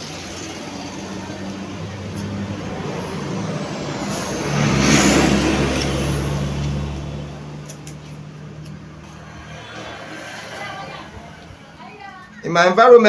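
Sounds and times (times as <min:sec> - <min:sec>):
vehicle passing by: 0:00.0 - 0:12.4.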